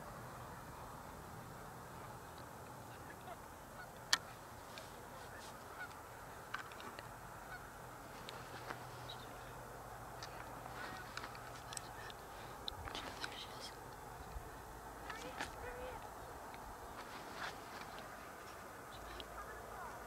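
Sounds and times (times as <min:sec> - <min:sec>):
faint distant bird calls: 0:00.0 - 0:20.0
steady background hiss: 0:00.0 - 0:20.0.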